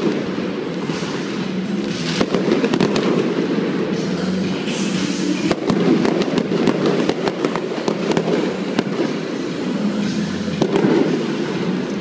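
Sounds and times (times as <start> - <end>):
continuous low rumble: 0.0 - 12.0
fireworks cracks and bangs: 0.0 - 12.0.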